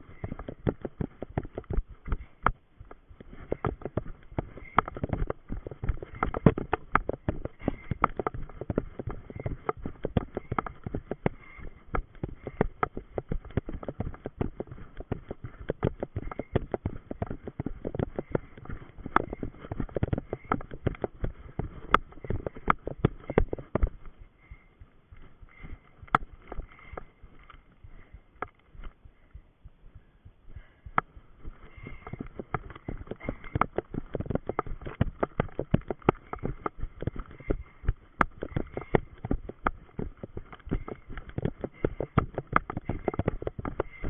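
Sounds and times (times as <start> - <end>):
running footsteps on dirt path: 0.0 - 44.0.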